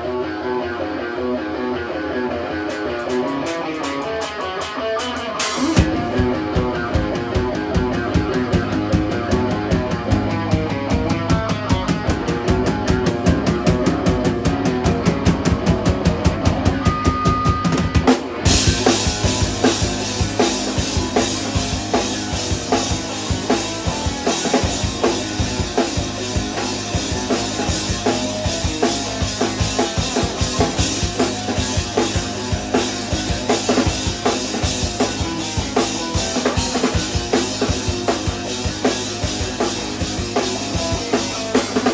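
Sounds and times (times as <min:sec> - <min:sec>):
instrumental rock band playing: 0:00.0 - 0:41.9.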